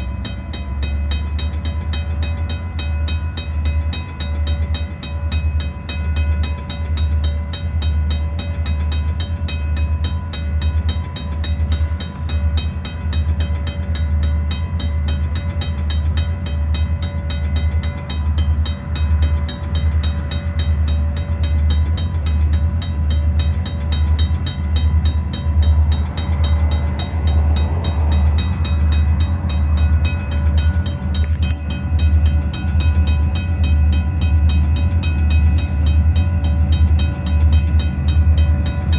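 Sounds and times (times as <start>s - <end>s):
diesel locomotive engines throbbing: 0.0s - 38.9s.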